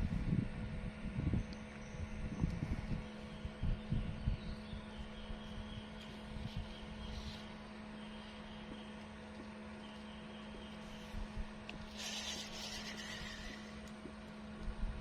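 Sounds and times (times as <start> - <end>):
low motor hum: 0.0 - 15.0
faint high buzz: 1.1 - 15.0.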